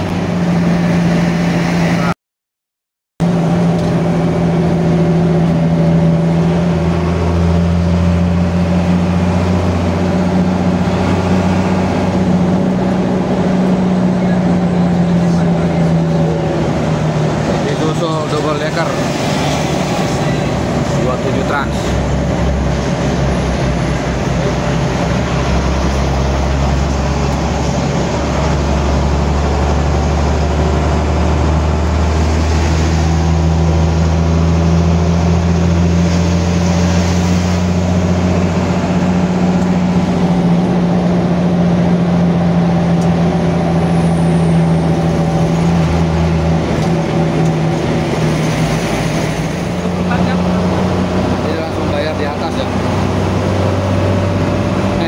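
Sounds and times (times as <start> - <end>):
bus engine and road drone: 0.0 - 2.2, 3.2 - 55.0.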